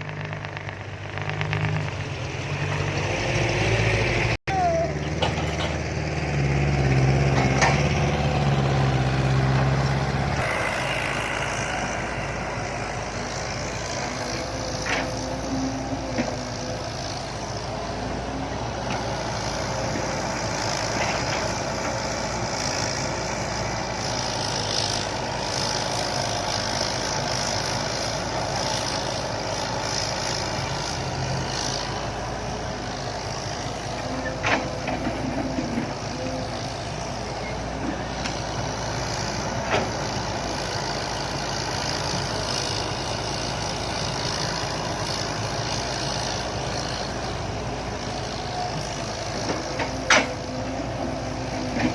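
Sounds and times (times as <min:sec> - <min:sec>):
diesel truck engines running loud: 0:00.0 - 0:51.9
digging machinery: 0:00.0 - 0:51.9.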